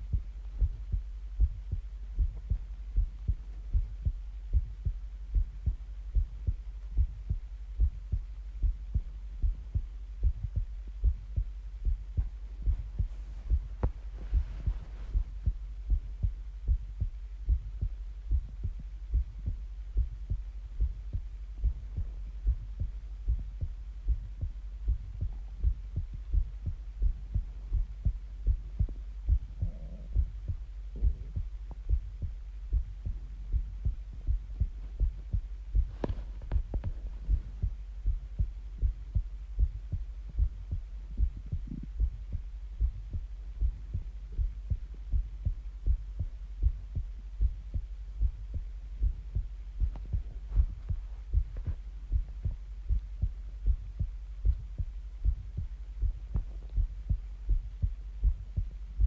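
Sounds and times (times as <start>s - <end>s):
constant low hum: 0.0s - 59.0s
heartbeat thumps: 0.0s - 59.0s.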